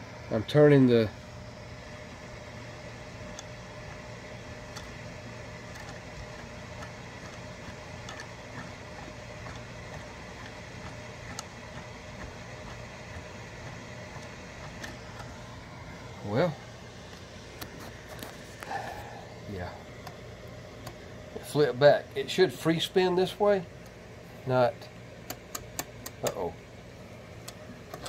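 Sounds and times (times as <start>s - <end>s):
small electric motor humming: 0.0s - 28.0s.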